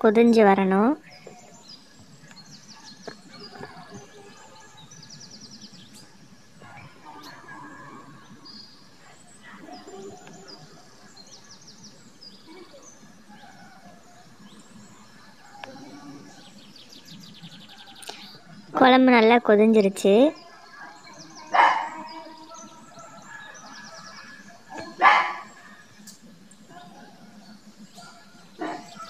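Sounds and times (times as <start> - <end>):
birds chirping and trilling: 0.0 - 29.0
low background hiss: 0.0 - 29.0.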